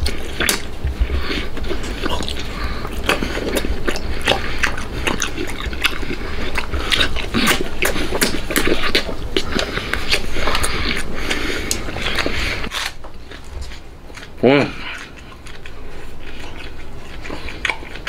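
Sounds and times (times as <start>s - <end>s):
wet chewing and slurping: 0.0s - 18.0s.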